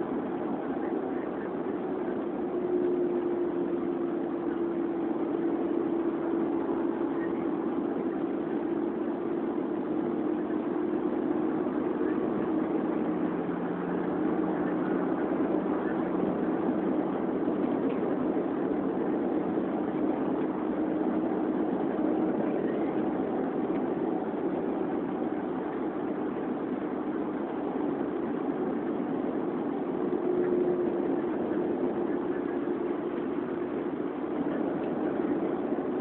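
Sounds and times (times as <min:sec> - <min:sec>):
car engine drone: 0:00.0 - 0:36.0
road noise inside car: 0:00.0 - 0:36.0.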